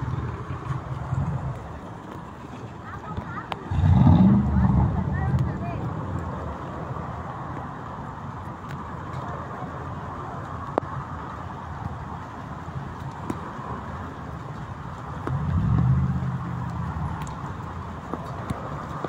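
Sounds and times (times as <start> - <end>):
cars on wet road: 0.0 - 19.0
vehicle engine rumbling: 0.0 - 19.0.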